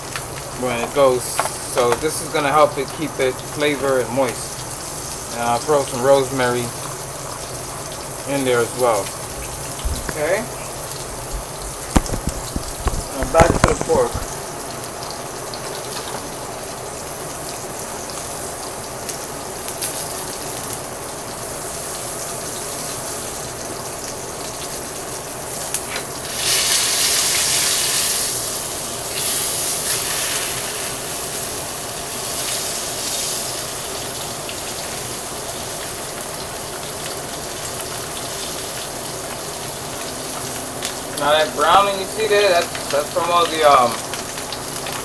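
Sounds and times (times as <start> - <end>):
meat sizzling in a pan: 0.0 - 45.0.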